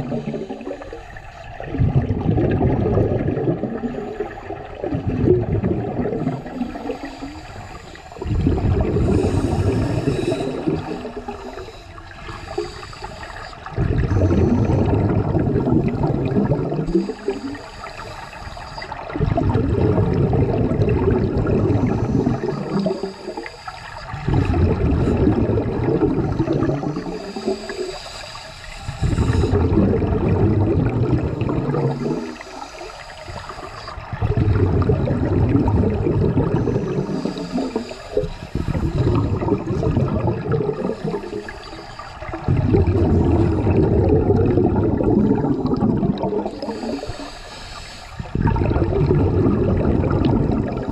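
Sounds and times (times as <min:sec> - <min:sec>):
underwater air bubbling: 0:00.0 - 0:50.9.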